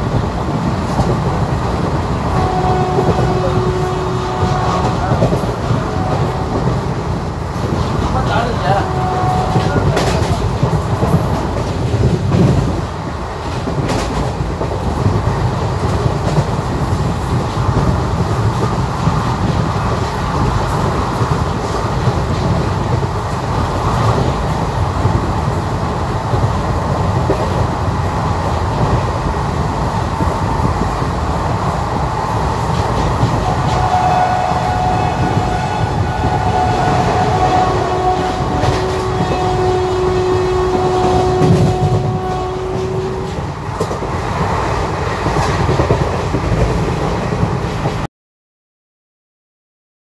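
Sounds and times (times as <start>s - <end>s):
train wheels rumbling: 0.0s - 48.1s.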